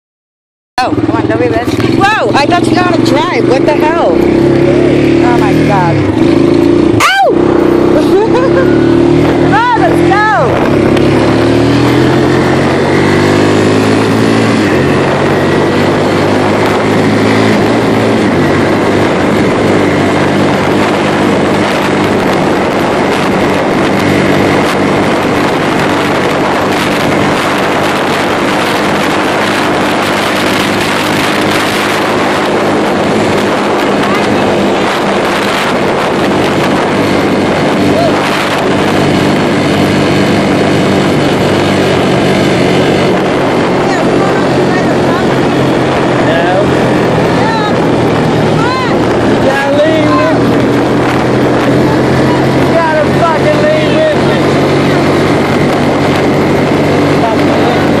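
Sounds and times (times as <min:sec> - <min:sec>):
quad bike engine running: 0:00.8 - 0:58.0.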